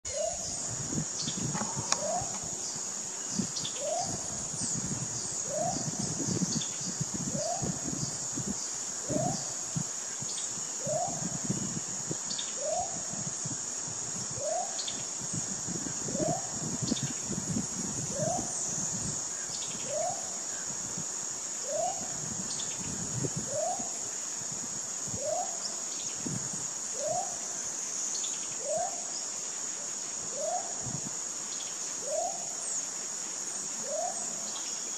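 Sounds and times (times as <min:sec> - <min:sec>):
high-pitched insect drone: 0:00.1 - 0:34.9.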